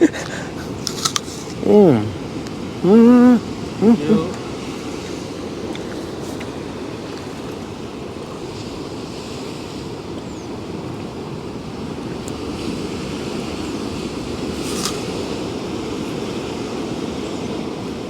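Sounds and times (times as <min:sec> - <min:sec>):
sea surf washing: 0:00.0 - 0:18.0.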